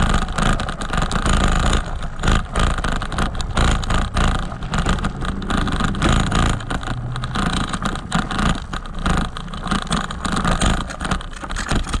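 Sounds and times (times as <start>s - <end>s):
bicycle rattling: 0.0s - 12.0s
bicycle tyres crunching gravel: 0.0s - 12.0s
wind rumbling on microphone: 0.0s - 12.0s.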